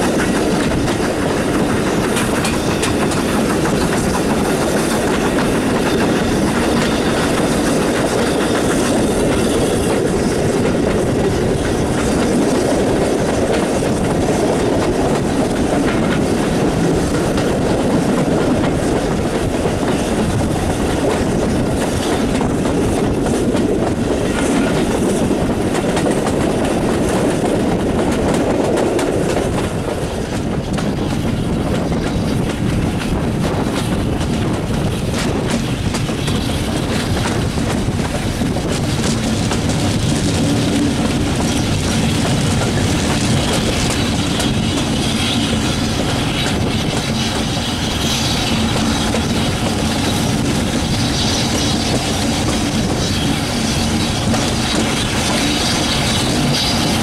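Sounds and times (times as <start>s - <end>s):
train running rush: 0.0s - 57.0s
wheels clicking over rail joints: 0.0s - 57.0s.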